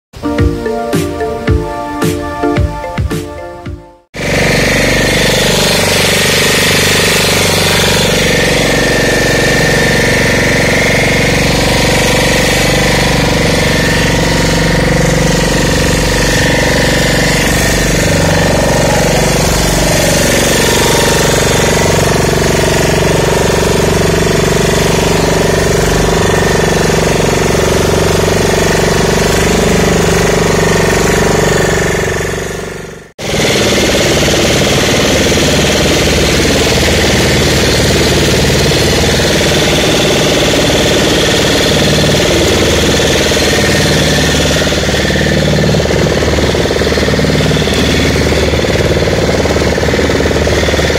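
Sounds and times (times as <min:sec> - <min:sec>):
boat motor chugging: 0:03.8 - 0:50.9.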